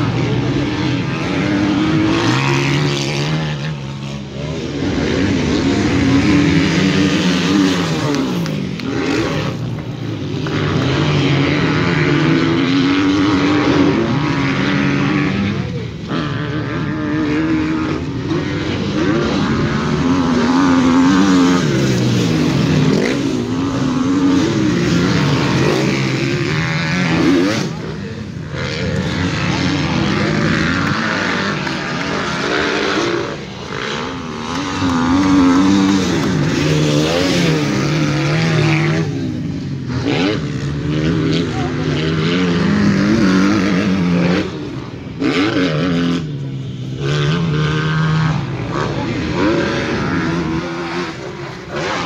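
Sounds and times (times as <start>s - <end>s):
motocross bike engines revving: 0.0s - 52.0s.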